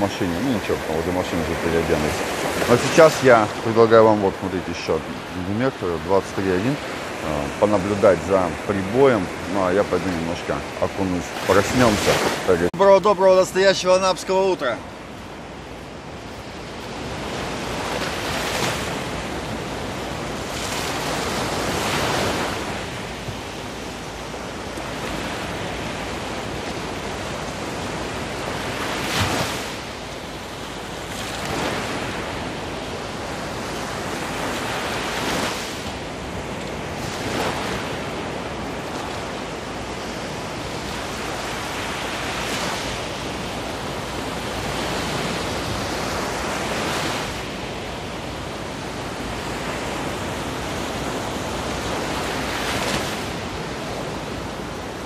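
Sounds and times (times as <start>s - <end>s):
waves breaking on sandy shore: 0.0s - 55.0s.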